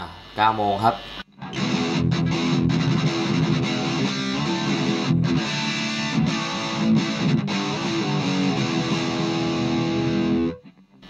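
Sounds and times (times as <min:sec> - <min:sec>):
overdriven electric guitar: 0:01.4 - 0:11.0.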